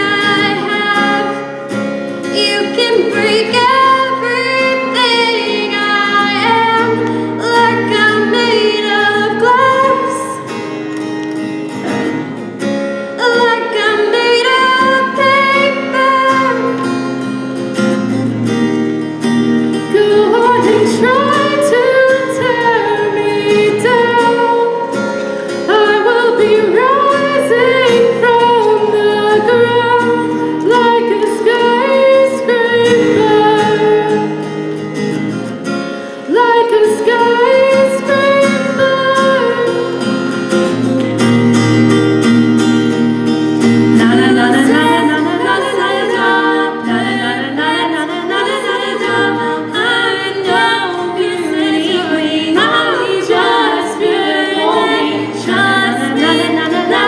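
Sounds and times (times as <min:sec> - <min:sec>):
women singing pop ballad: 0:00.0 - 0:01.6, 0:02.2 - 0:10.6, 0:13.2 - 0:17.1, 0:19.8 - 0:34.6, 0:36.2 - 0:40.2, 0:43.7 - 0:57.0.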